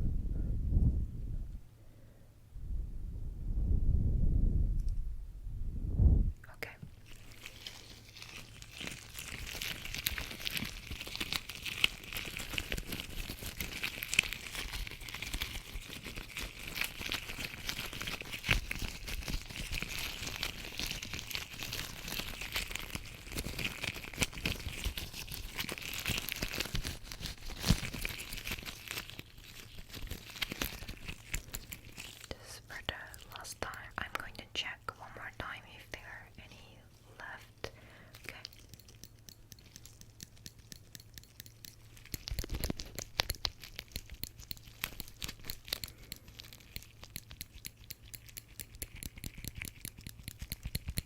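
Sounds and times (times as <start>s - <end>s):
latex gloves crinkling: 6.9s - 51.0s.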